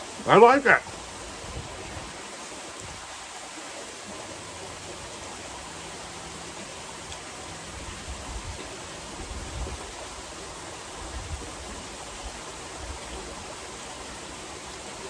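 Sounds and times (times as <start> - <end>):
waterfall splashing into pool: 0.0 - 15.0.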